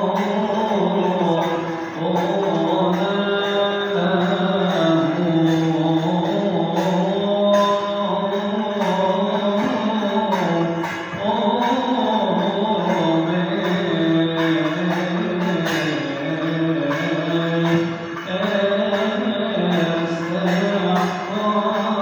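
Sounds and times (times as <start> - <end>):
light percussion beat: 0.0 - 22.0.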